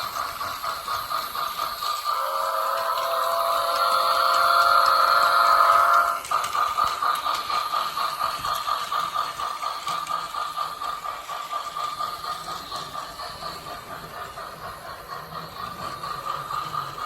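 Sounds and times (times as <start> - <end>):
toy train electronic chuffing: 0.0 - 17.0.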